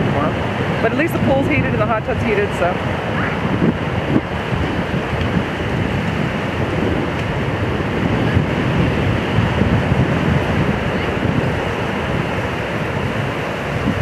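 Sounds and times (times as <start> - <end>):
waves washing onto shore: 0.0 - 14.0
wind buffeting microphone: 0.0 - 14.0.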